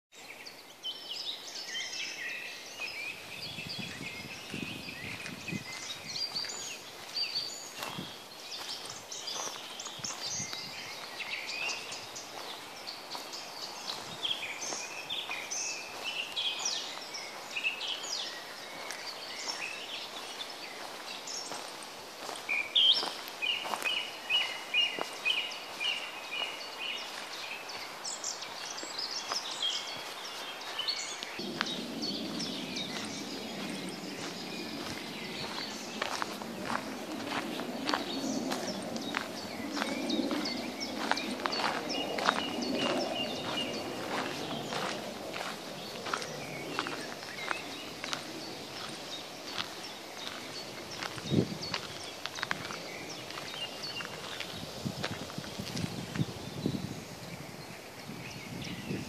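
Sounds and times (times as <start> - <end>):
songbirds singing and calling: 0.1 - 59.0.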